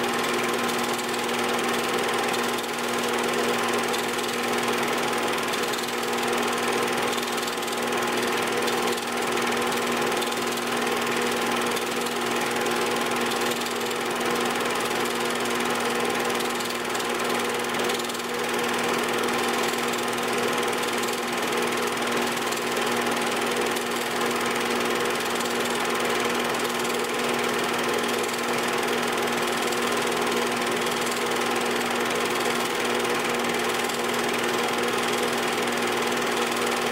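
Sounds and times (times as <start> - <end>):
film projector motor hum and rattle: 0.0 - 36.9.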